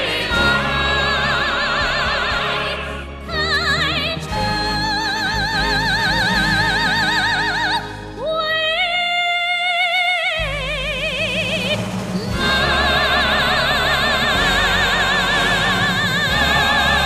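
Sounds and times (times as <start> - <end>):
song with vibrato singing: 0.0 - 17.0.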